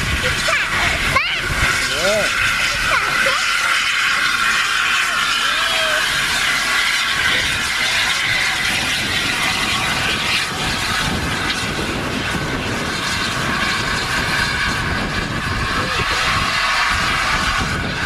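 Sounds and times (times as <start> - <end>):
loud steady steam hiss: 0.0 - 18.0
steam locomotive hissing: 0.0 - 18.0.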